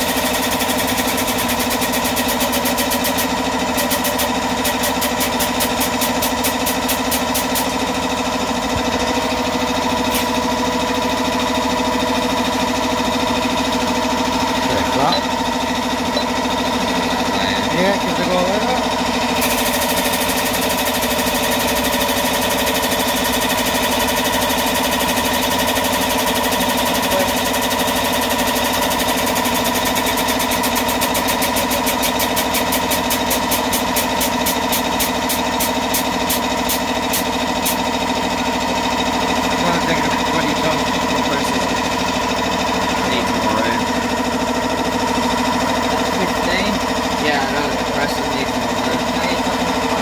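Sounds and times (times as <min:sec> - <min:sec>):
hydraulic pump humming: 0:00.0 - 0:50.0.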